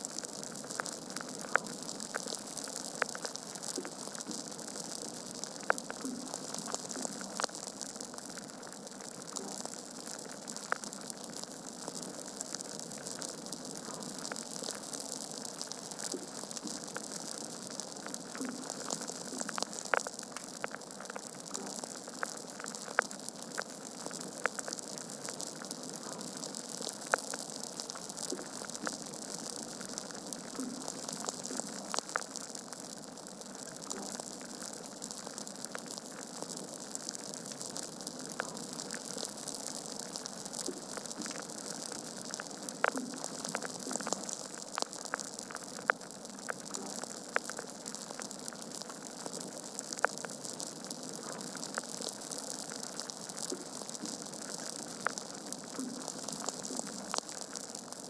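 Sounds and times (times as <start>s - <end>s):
logs crackling in a fireplace: 0.1s - 57.9s.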